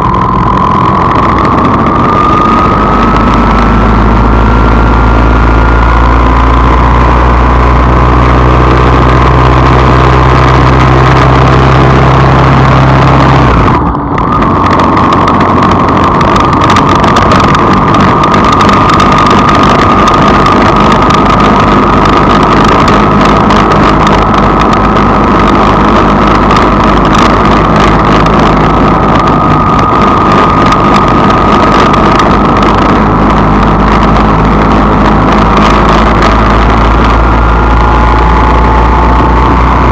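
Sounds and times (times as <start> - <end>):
deep low hum: 0.0 - 39.9
vehicle engine whining: 0.0 - 39.9.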